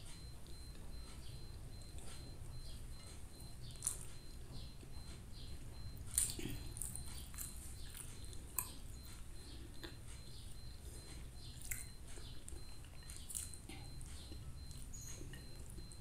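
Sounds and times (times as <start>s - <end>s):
mouth chewing rice: 0.0s - 16.0s.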